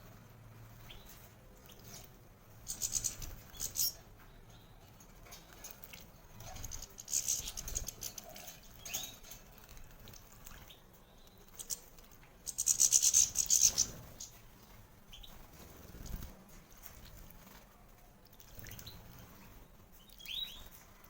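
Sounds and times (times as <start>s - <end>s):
bird chirp: 0.6s - 17.2s, 18.4s - 20.9s.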